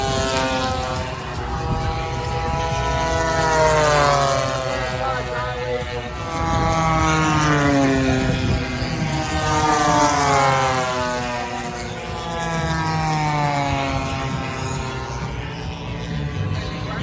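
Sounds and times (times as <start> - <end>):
model plane engine fly-by: 0.0 - 17.0.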